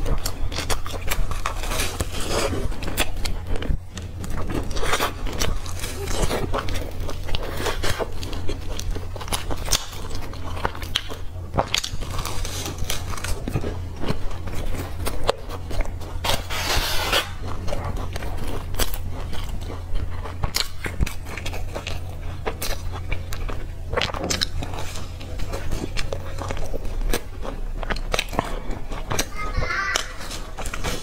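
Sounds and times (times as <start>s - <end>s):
chewing and biting bread: 0.0s - 31.0s
crinkly noise: 0.0s - 31.0s
steady low hum: 0.0s - 31.0s.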